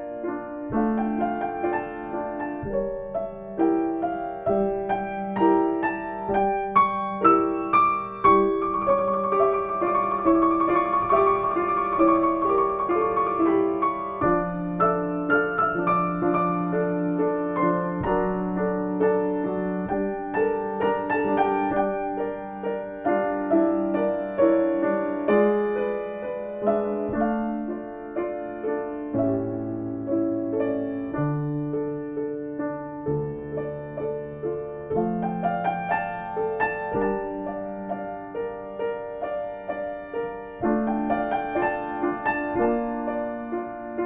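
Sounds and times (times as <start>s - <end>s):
slow quiet piano piece: 0.0s - 44.0s.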